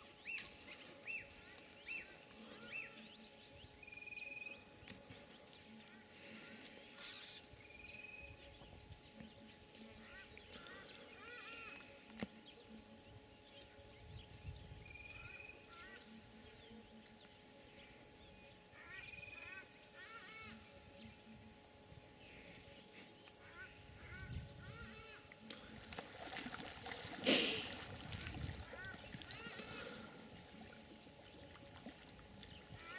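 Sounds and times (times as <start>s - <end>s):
steady high hiss: 0.0s - 32.9s.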